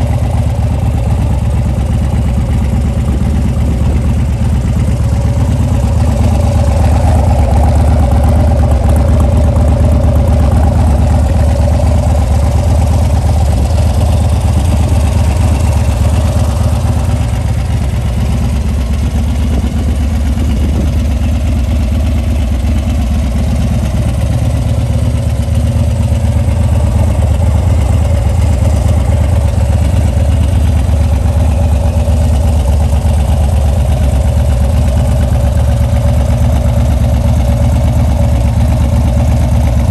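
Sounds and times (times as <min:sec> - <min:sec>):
motorcycle idling: 0:00.0 - 0:39.9.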